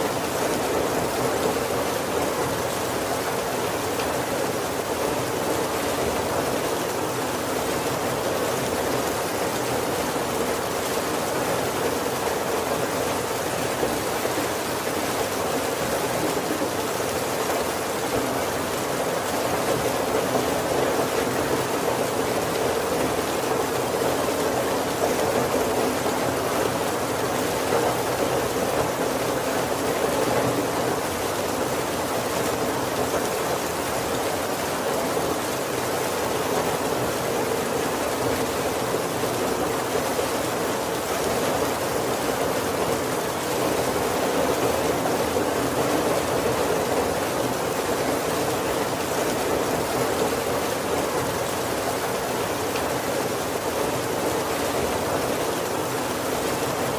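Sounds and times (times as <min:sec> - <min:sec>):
heavy rain on a roof: 0:00.0 - 0:56.9.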